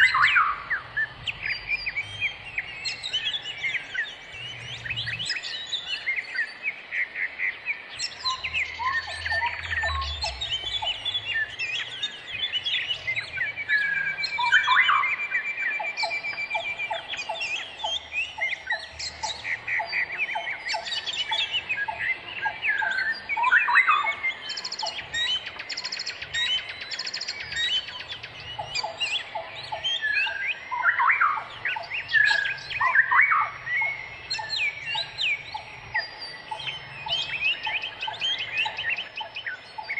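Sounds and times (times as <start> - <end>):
wild birds calling and singing: 0.0 - 39.9.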